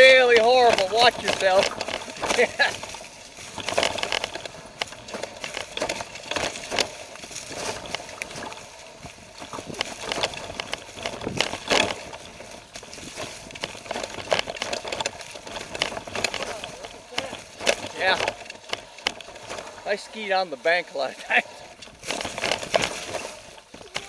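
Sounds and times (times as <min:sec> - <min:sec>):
bike knocking and rattling: 0:00.0 - 0:24.0
tyres crunching through dry leaves: 0:00.0 - 0:24.0.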